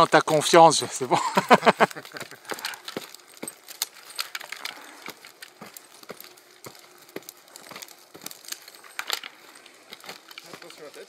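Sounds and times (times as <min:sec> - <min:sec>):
sharp irregular clicks and knocks: 0:01.2 - 0:11.0.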